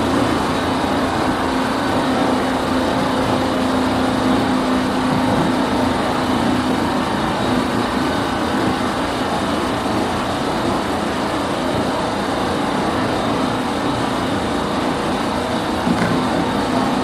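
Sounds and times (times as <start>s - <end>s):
train bogie hum: 0.0s - 17.0s
wheel and rail rumble: 0.0s - 17.0s.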